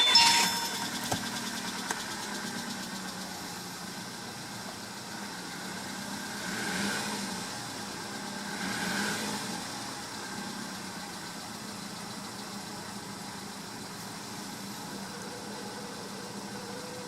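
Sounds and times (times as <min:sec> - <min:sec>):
car engine idling with knocking: 0:01.0 - 0:17.0.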